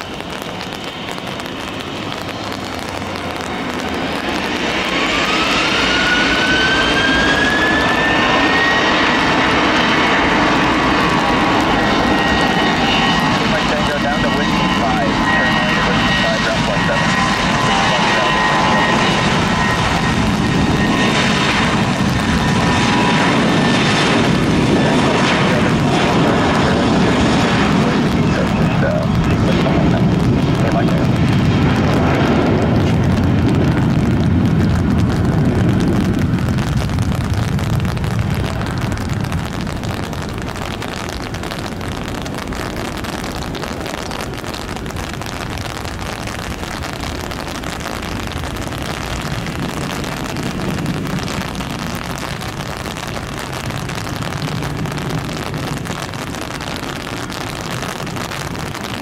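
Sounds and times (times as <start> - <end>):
jet engines roaring at takeoff: 0.0 - 59.0.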